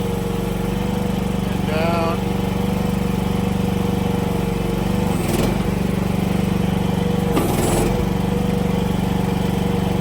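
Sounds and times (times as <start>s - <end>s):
mini excavator engine running: 0.0s - 10.0s
hydraulics working under load: 0.2s - 10.0s.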